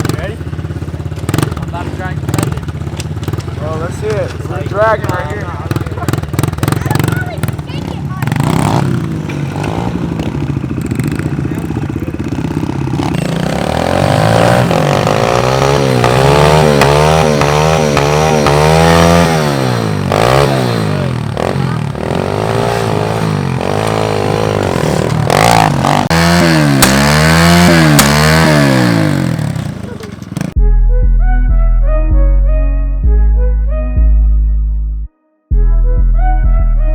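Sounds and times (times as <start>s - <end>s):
pit bike engines accelerating: 0.0s - 30.6s.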